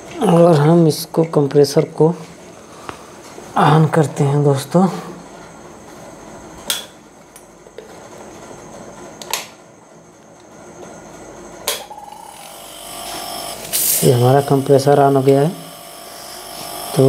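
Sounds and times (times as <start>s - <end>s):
compressor humming: 0.0s - 17.0s.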